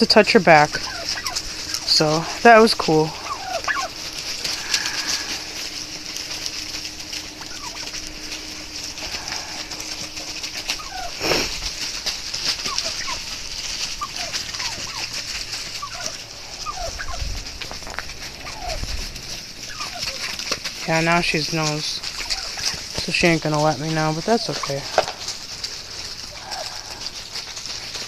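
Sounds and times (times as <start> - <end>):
turkeys calling softly: 0.0 - 28.0.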